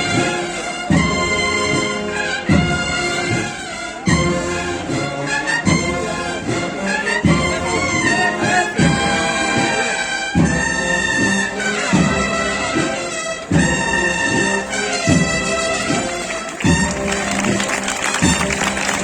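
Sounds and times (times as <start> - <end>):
brass band playing march: 0.0 - 19.0
heavy drum strokes: 0.0 - 19.0.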